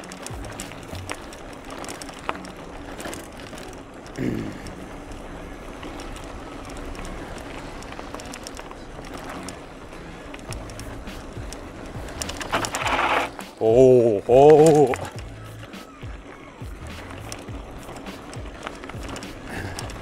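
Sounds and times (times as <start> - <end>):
bicycle tyre noise on trail: 0.0 - 20.0
bike clattering over bumps: 0.0 - 20.0.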